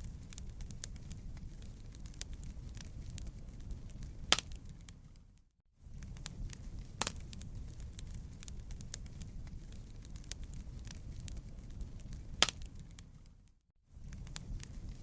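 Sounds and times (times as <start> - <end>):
loud fire pops: 0.0 - 5.0, 5.9 - 13.4, 14.0 - 15.0
wood fire crackling: 0.0 - 15.0.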